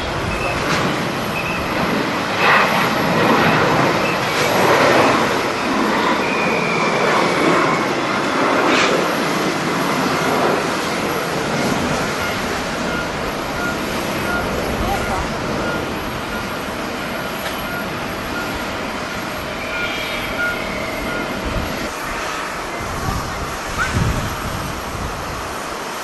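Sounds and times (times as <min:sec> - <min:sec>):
faint high whine: 0:00.0 - 0:08.0, 0:10.6 - 0:25.6
jet engines rushing: 0:00.0 - 0:26.0.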